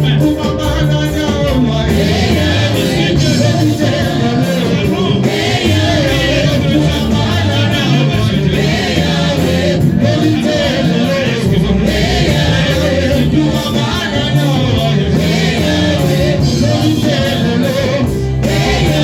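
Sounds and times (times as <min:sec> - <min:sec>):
group singing gospel music: 0:00.0 - 0:19.0
steady bass line: 0:00.0 - 0:19.0.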